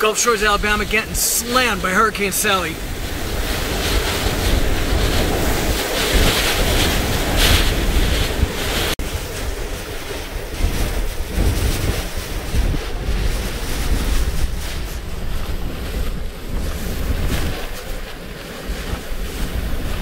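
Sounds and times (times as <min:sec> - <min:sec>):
driving rain: 0:00.0 - 0:20.0
strong wind blowing: 0:00.0 - 0:20.0
wind buffeting microphone: 0:00.4 - 0:20.0.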